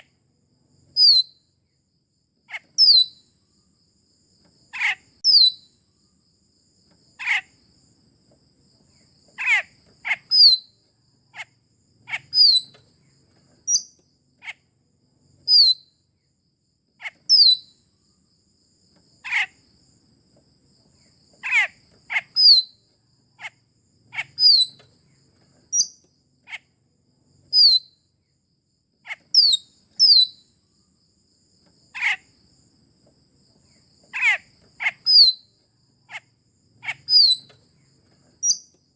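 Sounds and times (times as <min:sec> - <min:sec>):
high insect-like whine: 0:00.0 - 0:38.9.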